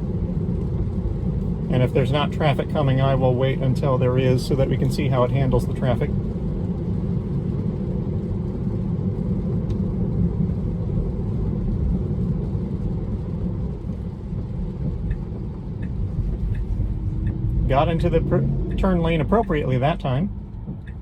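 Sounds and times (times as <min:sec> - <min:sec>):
road and tyre rumble in car: 0:00.0 - 0:21.0.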